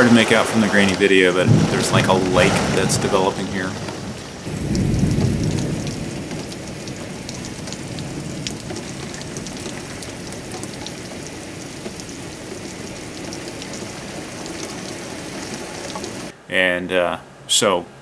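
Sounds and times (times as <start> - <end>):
heavy rain on lawn and patio: 0.0 - 16.3.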